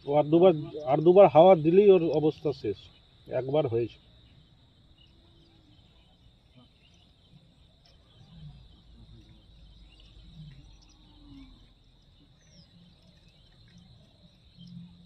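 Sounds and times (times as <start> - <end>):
faint bird chirps: 0.0 - 15.0
insect drone: 0.0 - 15.0.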